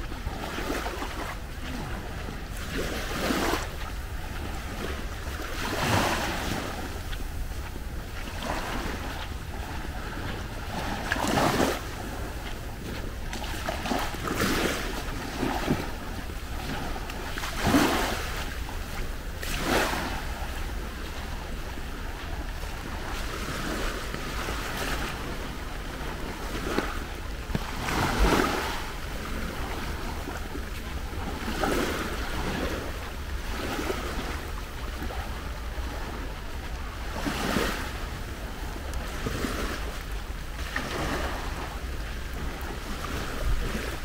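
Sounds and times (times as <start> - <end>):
small waves breaking: 0.0 - 44.0
wind rumble on microphone: 0.0 - 44.0.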